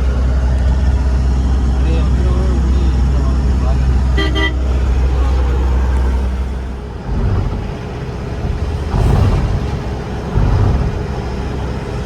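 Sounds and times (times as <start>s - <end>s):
heavy low rumble: 0.0s - 12.0s
van engine and road noise: 0.0s - 12.0s.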